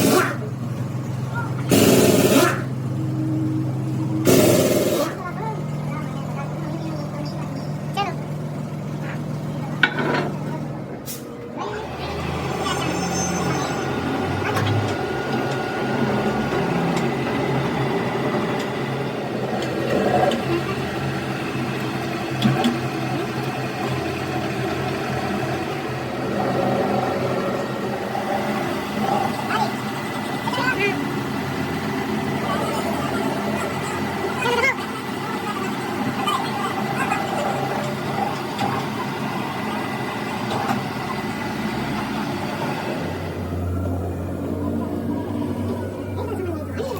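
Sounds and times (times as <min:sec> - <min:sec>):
mechanical running noise: 0:00.0 - 0:10.8, 0:12.2 - 0:46.9
engine idling: 0:00.0 - 0:12.9, 0:13.8 - 0:46.9.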